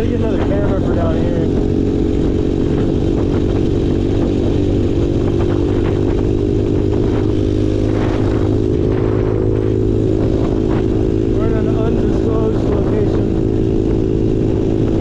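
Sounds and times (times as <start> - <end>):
small off-road engine running: 0.0 - 15.0.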